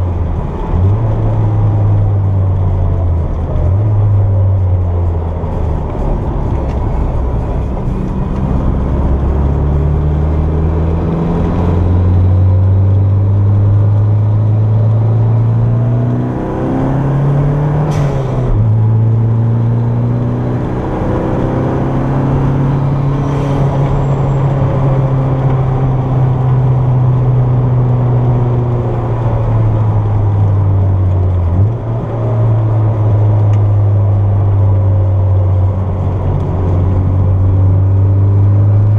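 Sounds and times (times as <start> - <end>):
turbocharged car engine under load: 0.0 - 38.9.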